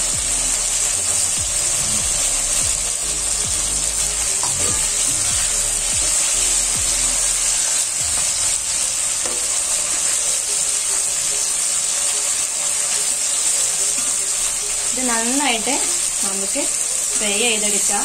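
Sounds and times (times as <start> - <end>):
meat sizzling in oil: 0.0 - 18.0.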